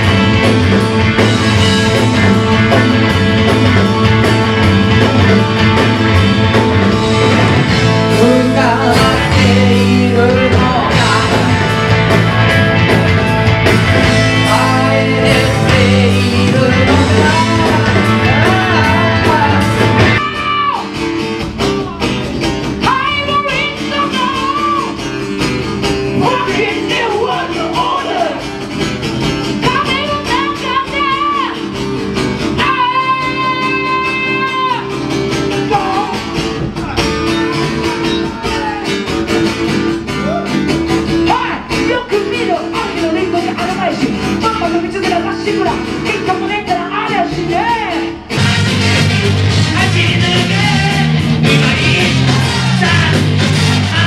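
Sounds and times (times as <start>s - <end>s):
live rock band playing: 0.0s - 54.0s
person singing with guitar: 0.0s - 54.0s.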